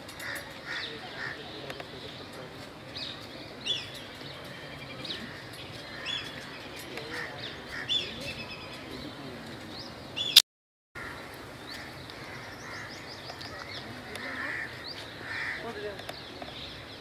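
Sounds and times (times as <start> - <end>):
small birds chirping: 0.0 - 10.4, 11.0 - 17.0.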